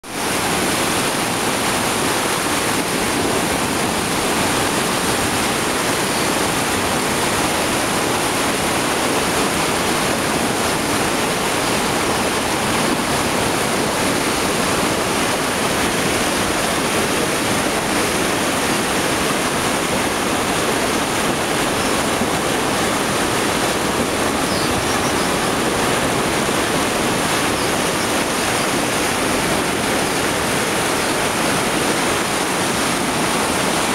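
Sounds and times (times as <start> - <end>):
river rushing over rocks: 0.0 - 33.9.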